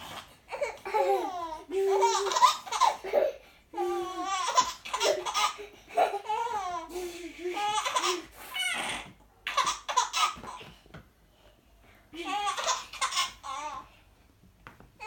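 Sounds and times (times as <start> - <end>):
baby laughing: 0.1 - 10.6, 12.2 - 13.8.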